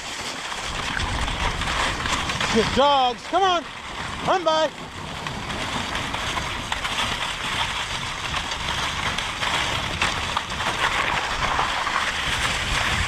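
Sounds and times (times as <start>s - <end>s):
dogs' pawsteps: 0.0s - 13.0s
sled runners scraping on snow: 0.0s - 13.0s.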